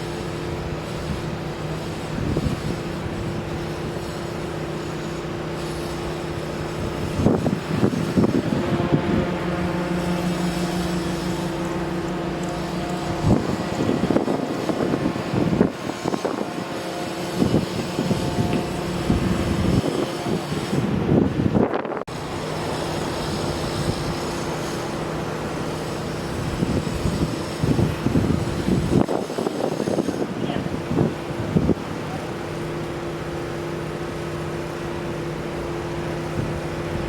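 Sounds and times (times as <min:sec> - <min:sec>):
machine engine humming: 0:00.0 - 0:30.2.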